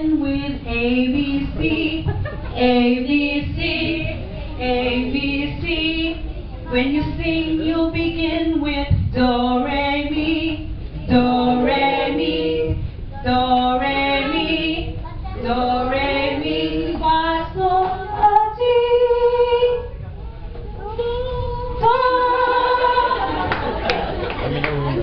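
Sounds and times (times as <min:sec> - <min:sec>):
woman singing into microphone: 0:00.0 - 0:19.9, 0:20.8 - 0:23.5.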